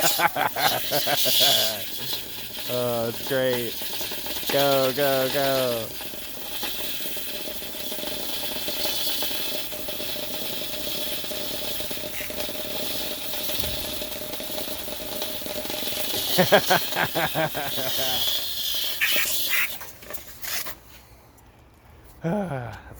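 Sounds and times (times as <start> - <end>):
pressure washer spray hissing: 0.0 - 19.8.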